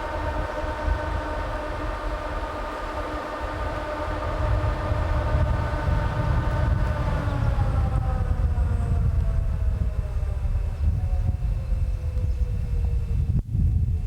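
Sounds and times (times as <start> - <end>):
freight locomotive rumble and whine: 0.0 - 14.0.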